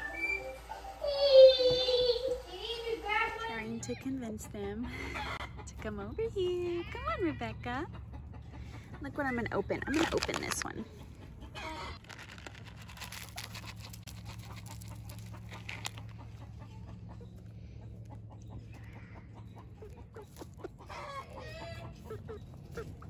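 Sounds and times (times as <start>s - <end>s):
hens clucking: 3.7s - 23.0s.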